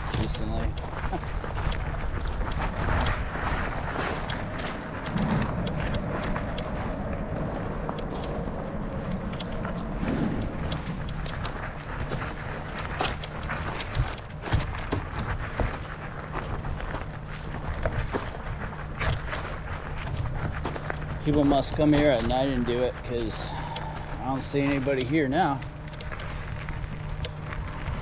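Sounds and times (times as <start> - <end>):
footsteps on gravel: 0.0 - 28.0
steady low rumble: 0.0 - 28.0.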